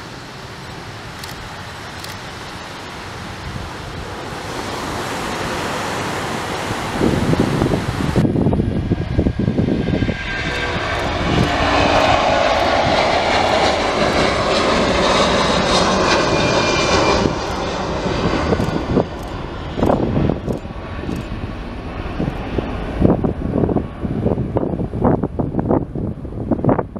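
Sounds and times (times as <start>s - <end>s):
jet engines roaring at take-off: 0.0s - 26.9s
wind buffeting microphone: 3.1s - 26.9s.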